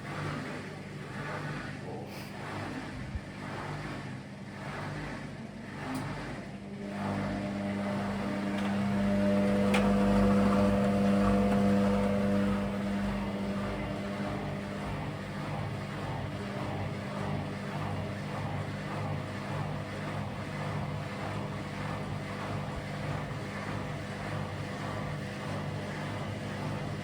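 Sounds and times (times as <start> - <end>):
washing machine spinning: 0.0 - 27.0.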